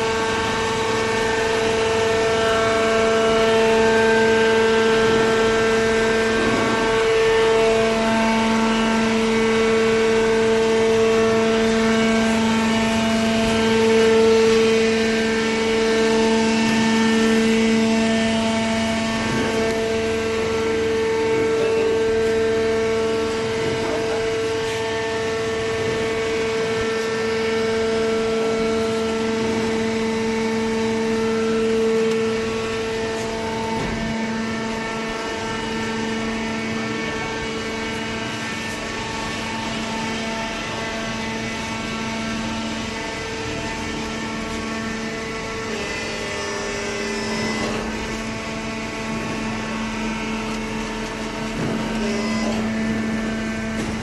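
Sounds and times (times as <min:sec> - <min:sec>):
hydraulic power unit humming: 0:00.0 - 0:54.0.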